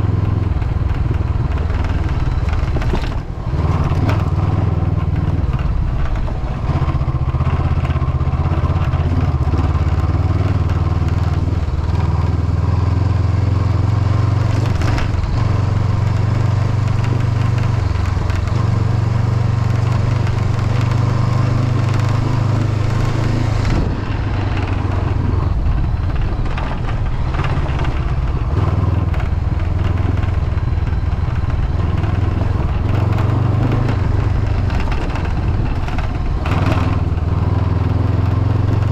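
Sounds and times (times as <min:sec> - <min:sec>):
motorcycle engine running: 0:00.0 - 0:38.9
windshield rattling: 0:00.5 - 0:09.5, 0:14.5 - 0:37.6.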